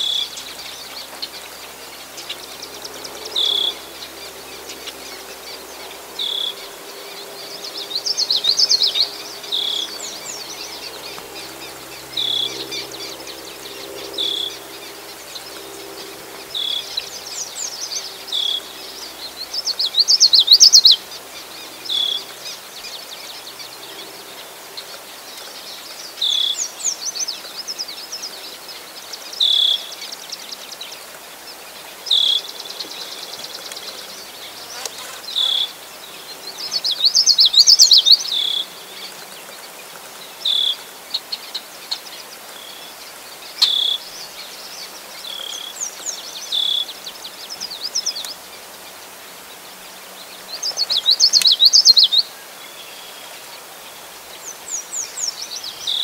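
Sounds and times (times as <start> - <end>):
birds calling: 0.0 - 56.0
rapid jumbled birdsong: 0.0 - 56.0.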